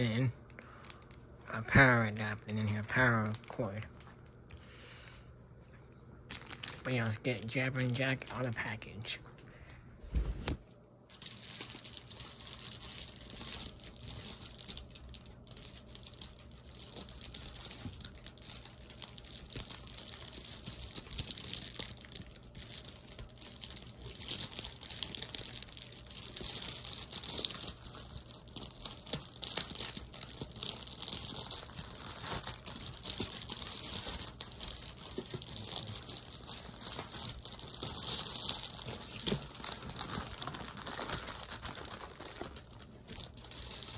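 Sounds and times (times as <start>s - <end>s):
plastic bag crinkling: 0.0s - 4.7s, 6.3s - 9.8s, 11.1s - 43.9s.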